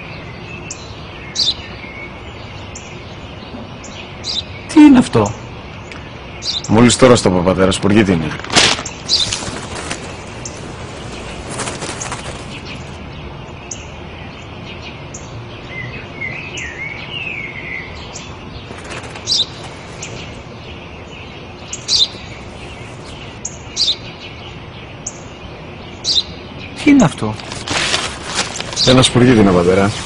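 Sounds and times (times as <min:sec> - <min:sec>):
sparrow chirping: 0:00.0 - 0:30.0.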